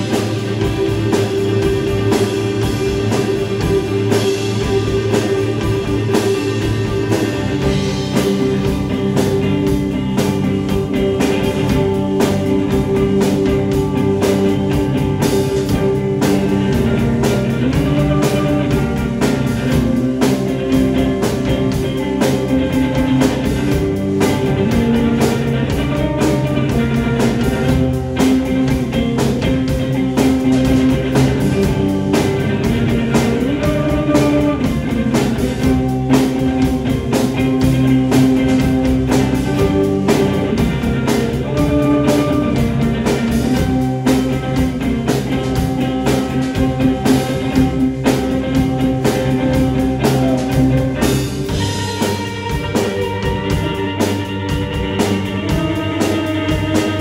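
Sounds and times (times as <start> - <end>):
droning electric guitars: 0.0 - 57.0
drum kit with busy cymbals: 0.0 - 57.0.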